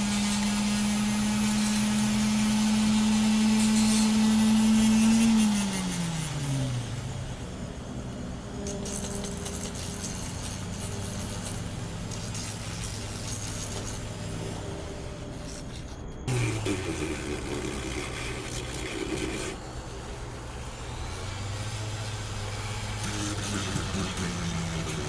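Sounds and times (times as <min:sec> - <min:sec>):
grinder motor hum winding down: 0:00.0 - 0:25.0.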